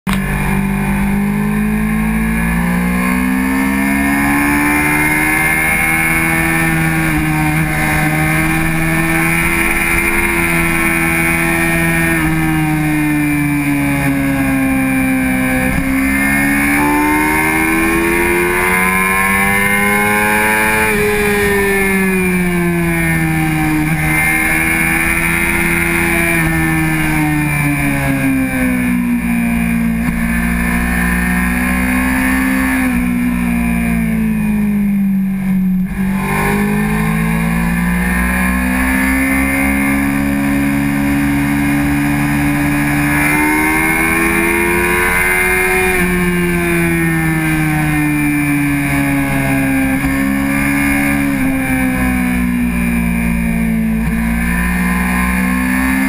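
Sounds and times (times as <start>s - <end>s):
motorcycle engine revving: 0.1s - 56.0s.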